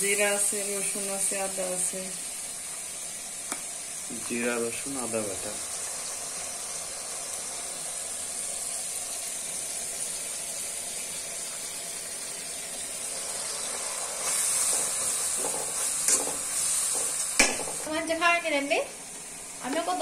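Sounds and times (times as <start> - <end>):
onions sizzling in a pot: 0.0 - 20.0.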